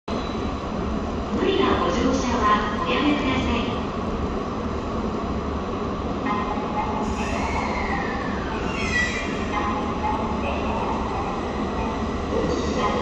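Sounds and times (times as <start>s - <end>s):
electric train rumble: 0.1s - 13.0s.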